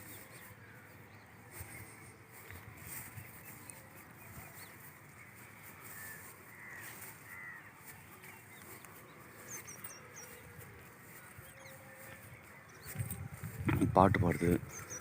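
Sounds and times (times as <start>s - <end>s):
faint bird calls: 0.0s - 13.8s, 14.6s - 15.0s
rural background noise: 0.0s - 15.0s.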